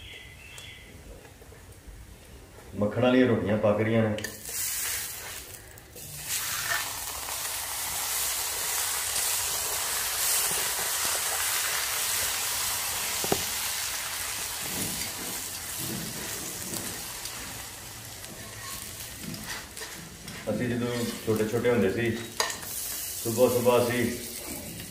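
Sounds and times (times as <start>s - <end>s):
butter sizzling on hot pan: 4.2s - 24.9s.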